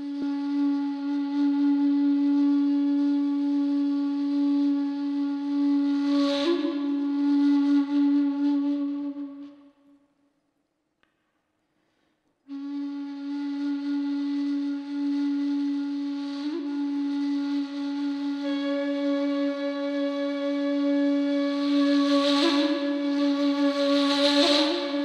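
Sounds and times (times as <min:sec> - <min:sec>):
flute-like woodwind low note: 0:00.0 - 0:10.0, 0:12.5 - 0:25.0.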